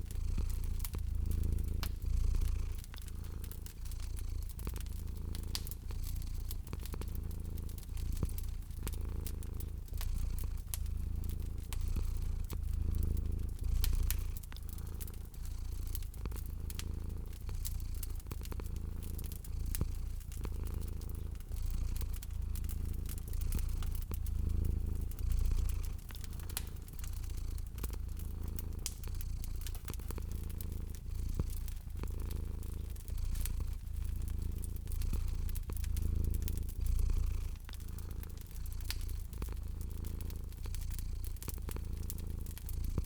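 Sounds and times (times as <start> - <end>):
cat purring: 0.0 - 43.0
wood fire crackling: 0.0 - 43.0.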